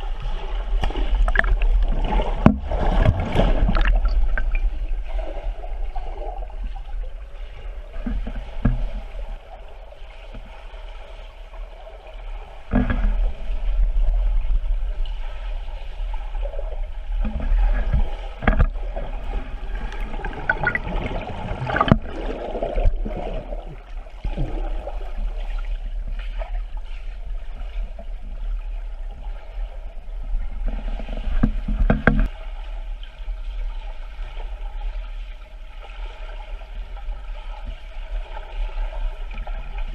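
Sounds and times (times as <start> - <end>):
swirling water underwater: 0.0 - 39.9.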